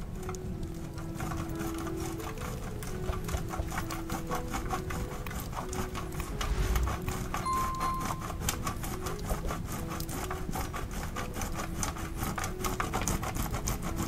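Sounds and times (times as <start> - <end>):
cheese grating on metal grater: 0.2 - 14.0.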